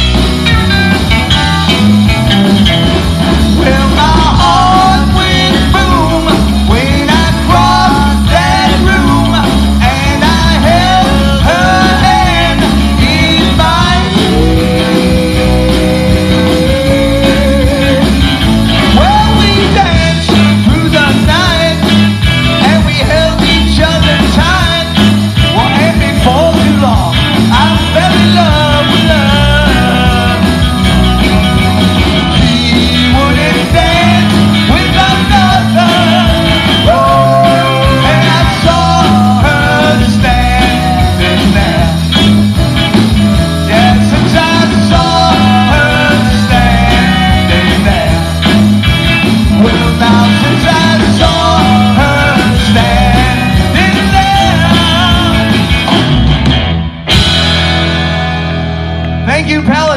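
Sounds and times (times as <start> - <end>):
bass guitar: 0.0 - 59.9
drum kit: 0.0 - 59.9
electric guitars: 0.0 - 59.9.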